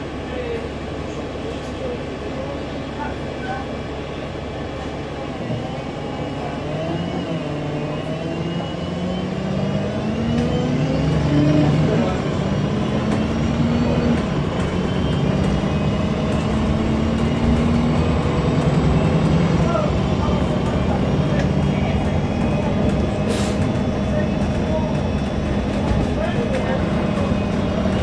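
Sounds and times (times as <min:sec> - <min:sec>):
bus diesel engine accelerating: 0:00.0 - 0:28.0
road noise: 0:00.0 - 0:28.0.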